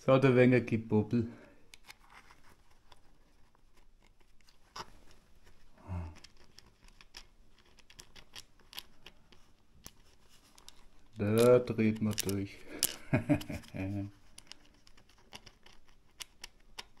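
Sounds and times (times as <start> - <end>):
small parts clicking and rustling: 1.5 - 17.0.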